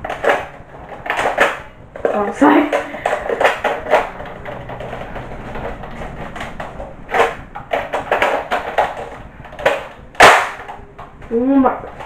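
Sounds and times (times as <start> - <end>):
plastic clacks: 0.0 - 12.0.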